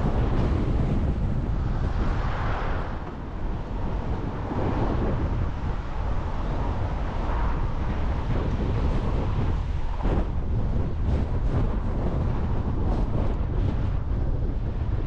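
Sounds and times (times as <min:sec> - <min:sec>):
car road noise: 0:00.0 - 0:15.0
wind buffeting microphone: 0:00.0 - 0:15.0.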